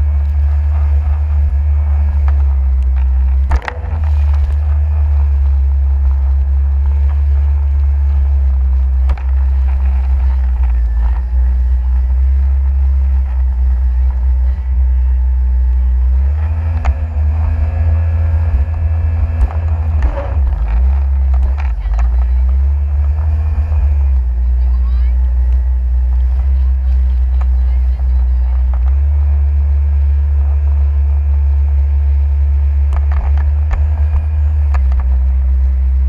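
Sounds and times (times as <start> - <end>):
jet ski engine running: 0.0 - 36.0.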